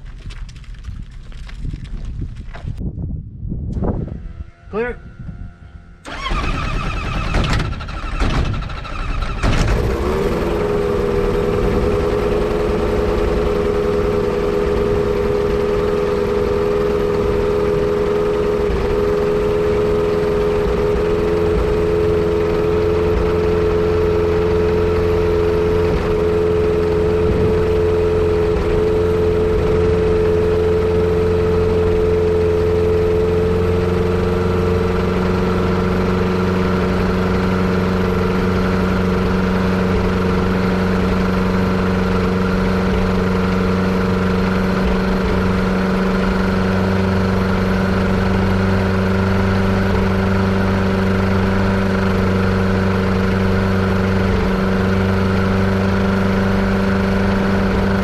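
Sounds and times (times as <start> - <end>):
airplane engine cranking and idling: 3.7 - 58.0.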